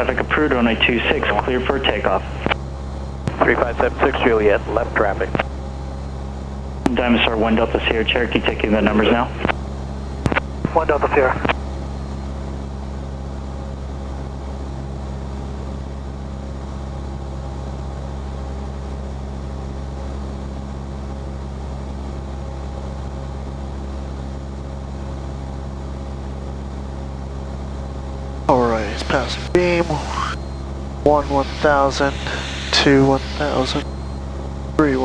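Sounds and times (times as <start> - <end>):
airplane engine droning in cabin: 0.0 - 35.0.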